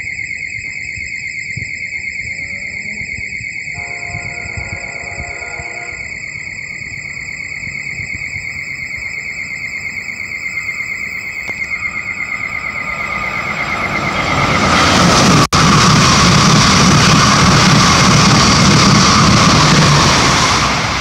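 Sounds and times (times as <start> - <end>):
train wheel and rail rushing: 0.0 - 21.0
high warbling whine: 0.9 - 21.0.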